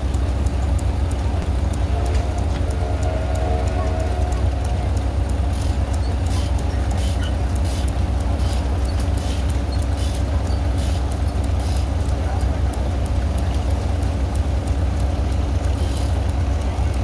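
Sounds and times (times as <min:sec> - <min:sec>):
sawmill engine and belt drone: 0:00.0 - 0:17.0.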